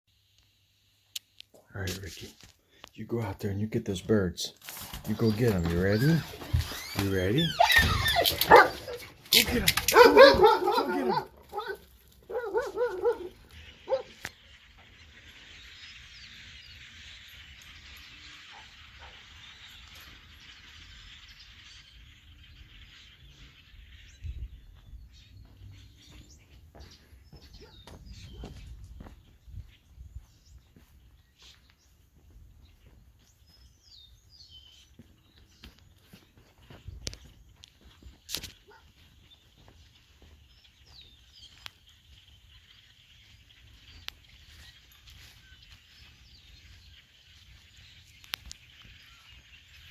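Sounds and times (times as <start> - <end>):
faint outdoor ambience: 0.1 - 49.9
flock of birds chirping: 0.2 - 49.9.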